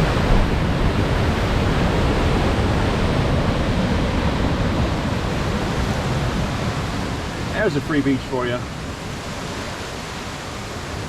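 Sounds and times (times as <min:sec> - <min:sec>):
ocean surf on rocky shore: 0:00.0 - 0:11.0.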